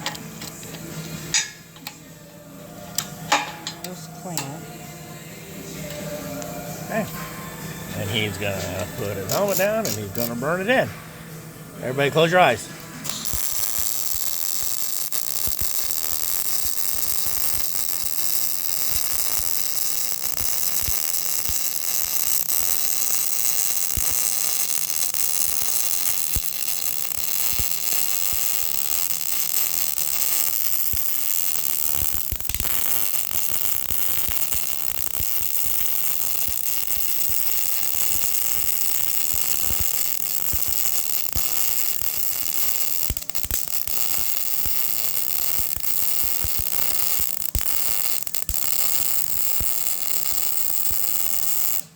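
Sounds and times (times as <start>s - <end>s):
welder arc crackling and sizzling: 0.0s - 51.9s.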